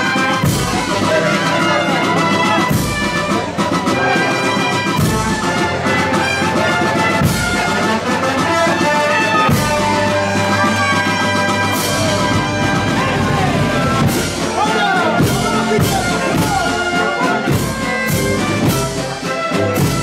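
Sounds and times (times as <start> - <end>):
brass band playing march: 0.0 - 20.0.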